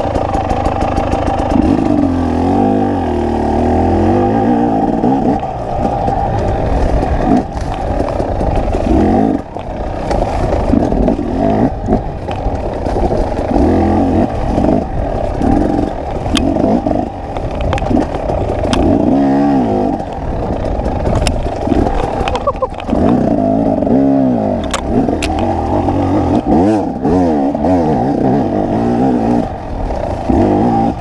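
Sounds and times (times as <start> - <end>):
motorbike clattering over rocks: 0.0 - 4.2, 4.9 - 27.7
two-stroke engine revving: 0.0 - 31.0.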